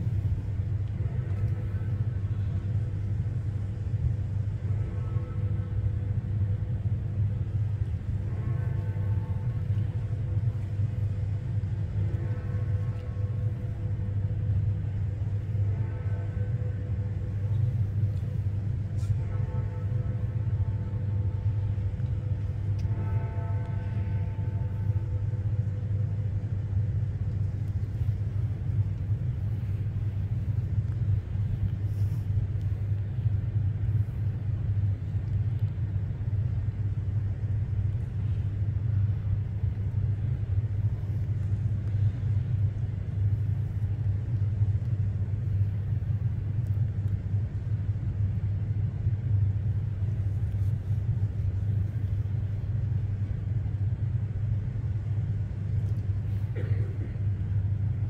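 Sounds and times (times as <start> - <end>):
low rumble of outdoor background noise: 0.0 - 58.0.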